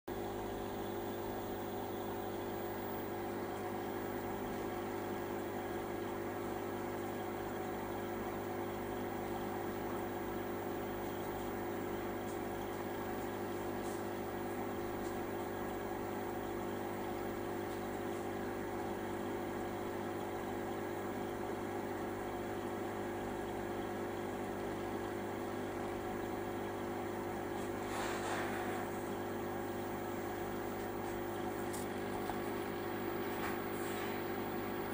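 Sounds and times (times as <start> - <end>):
aquarium pump humming: 0.1 - 34.9.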